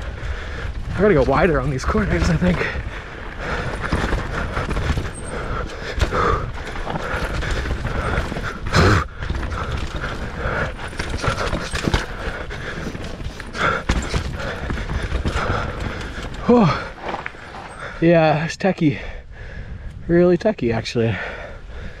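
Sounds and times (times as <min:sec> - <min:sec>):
bike frame and chain rattling: 0:00.0 - 0:18.1
bike tyres on dirt: 0:00.0 - 0:22.0.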